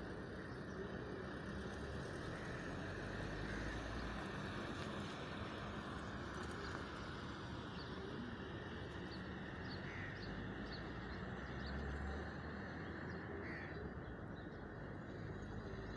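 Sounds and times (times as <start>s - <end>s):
outdoor background noise: 0.0s - 15.9s.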